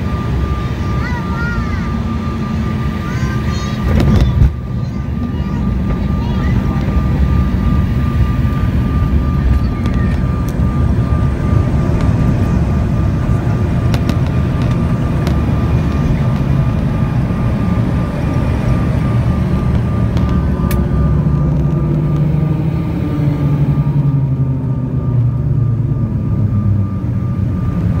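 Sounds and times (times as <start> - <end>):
low engine hum: 0.0 - 28.0
thin steady whine: 0.0 - 28.0
wheels and engines rumbling: 0.0 - 28.0.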